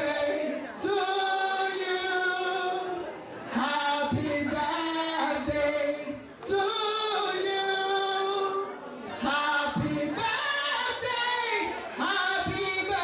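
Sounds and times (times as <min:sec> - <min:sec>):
group singing together: 0:00.0 - 0:13.0
woman singing into a microphone: 0:00.0 - 0:13.0.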